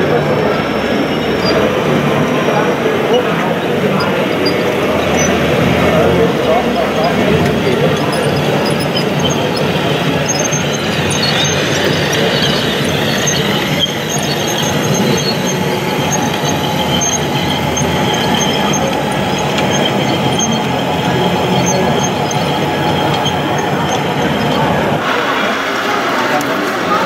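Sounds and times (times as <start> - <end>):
thin high squeal: 0.0 - 25.3
model excavator running on metal tracks: 0.0 - 27.0.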